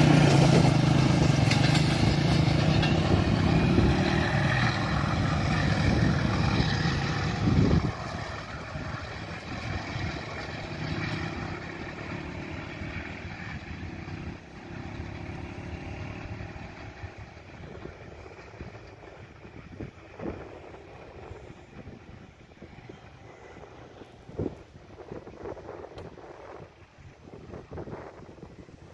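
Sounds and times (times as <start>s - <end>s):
train wheels rumbling on rails: 0.0s - 28.8s.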